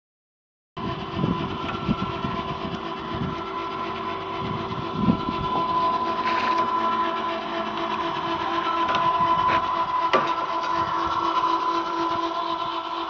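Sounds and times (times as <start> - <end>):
winch motor whine: 0.8 - 13.0.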